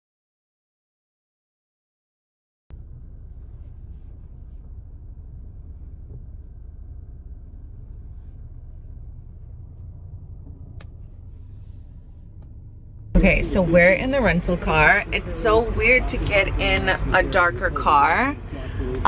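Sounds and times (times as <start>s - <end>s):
car rumble from inside cabin: 2.7s - 19.0s.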